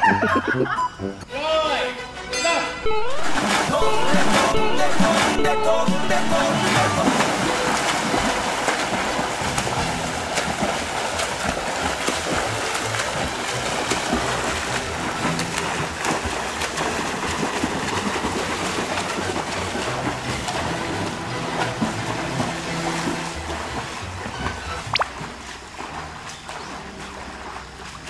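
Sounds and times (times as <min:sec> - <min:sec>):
background music: 0:00.0 - 0:28.0
water splashing and churning: 0:02.8 - 0:28.0.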